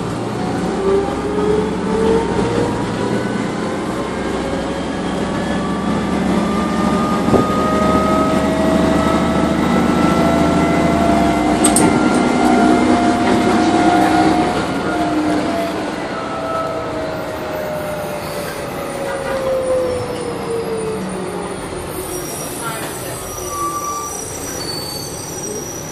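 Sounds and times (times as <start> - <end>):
engine and road rumble: 0.0 - 22.2
bus transmission whining: 0.0 - 25.9.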